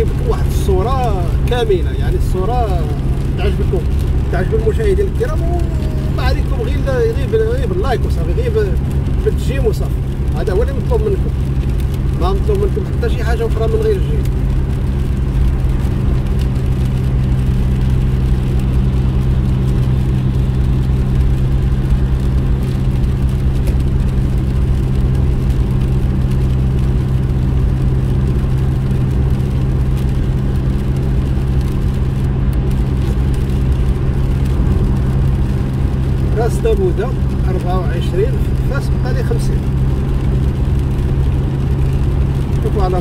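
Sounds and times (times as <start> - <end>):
car engine hum: 0.0 - 43.0
tyre noise on wet road: 0.0 - 43.0.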